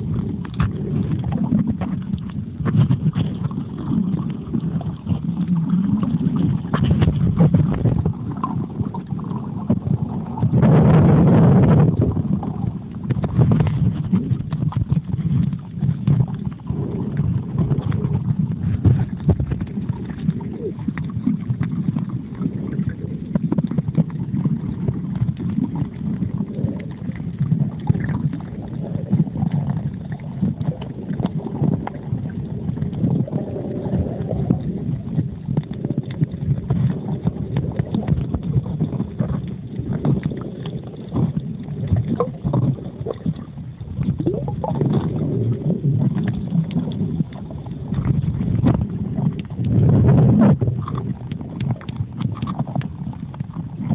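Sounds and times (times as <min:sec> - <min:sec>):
low underwater rumble: 0:00.0 - 0:53.9
water swishing underwater: 0:00.0 - 0:53.9.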